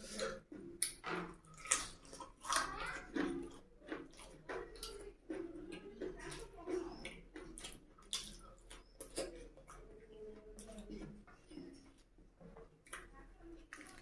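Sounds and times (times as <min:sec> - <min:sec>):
wet chewing and lip smacks: 0:00.0 - 0:14.0.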